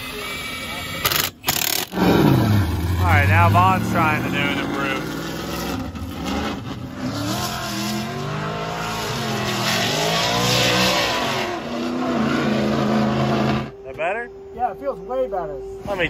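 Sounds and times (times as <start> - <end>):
car engine revving: 1.0 - 16.0.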